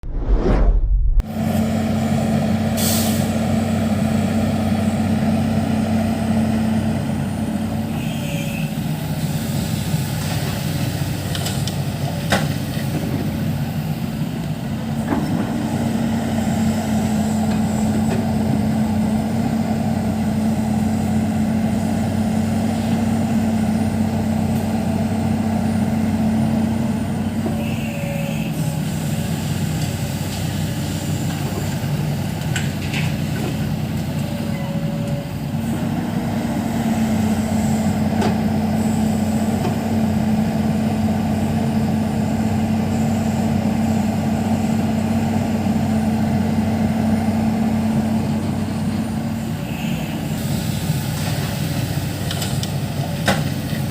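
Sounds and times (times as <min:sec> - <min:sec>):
diesel engine humming: 0:00.9 - 0:53.9.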